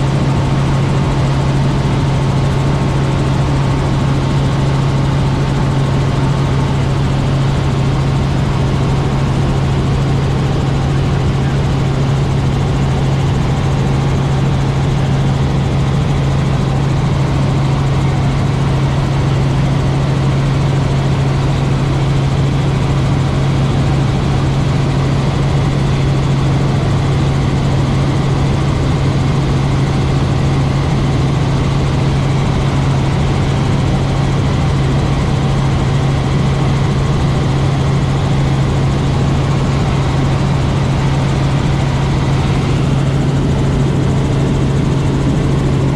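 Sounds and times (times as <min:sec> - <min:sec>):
helicopter rotors and engine drone: 0:00.0 - 0:45.9.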